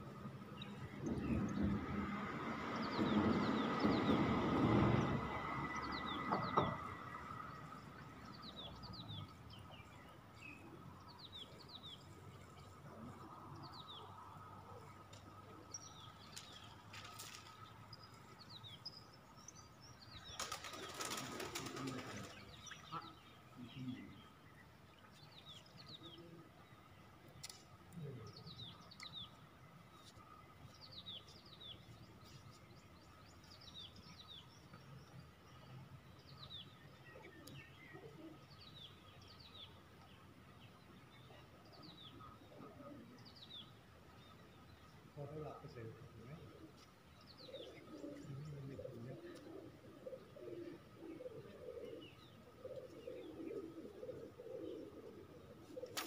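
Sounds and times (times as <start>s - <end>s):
small birds chirping: 5.0s - 56.0s.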